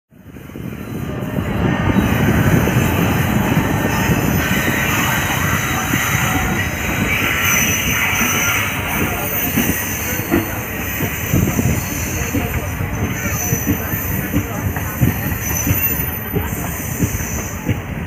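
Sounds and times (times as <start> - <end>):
train wheels rumbling on rails: 0.1 - 18.0
train hiss: 0.3 - 18.0.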